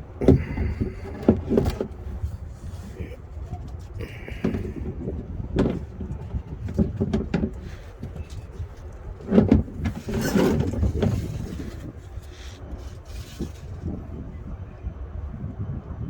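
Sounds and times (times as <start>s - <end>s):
steady low rumble: 0.0s - 16.0s
tools and parts clattering: 0.2s - 13.9s.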